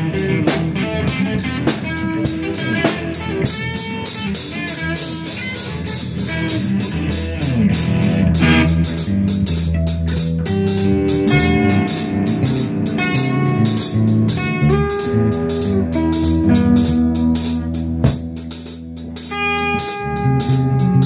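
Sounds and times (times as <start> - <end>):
lead guitar sustained notes: 0.0 - 21.0
rock band playing: 0.0 - 21.0
steady drum beat: 0.0 - 21.0.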